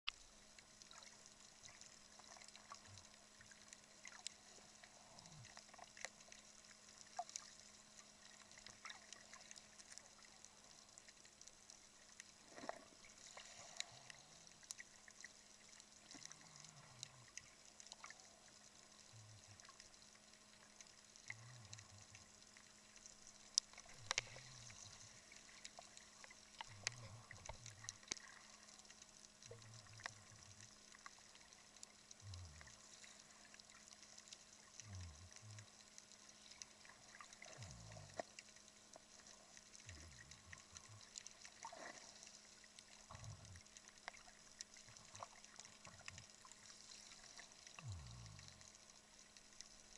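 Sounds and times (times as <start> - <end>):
low steady hum: 0.1 - 49.9
underwater clicks and crackles: 0.1 - 49.9.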